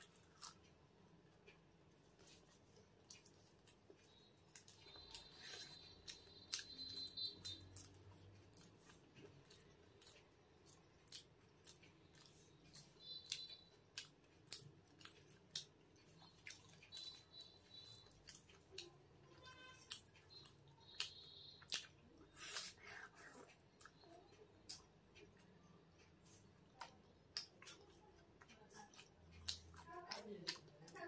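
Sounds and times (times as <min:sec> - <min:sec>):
person chewing food: 0:00.0 - 0:31.0.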